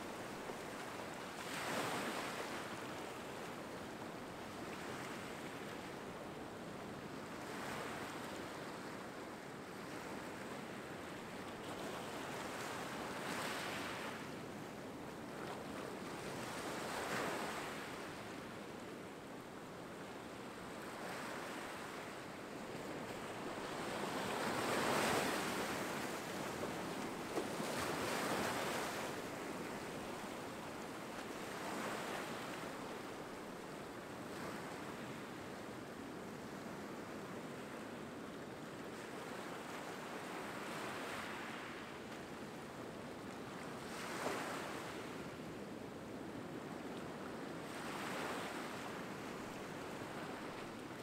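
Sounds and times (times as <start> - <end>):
small waves breaking on shore: 0.0 - 51.0.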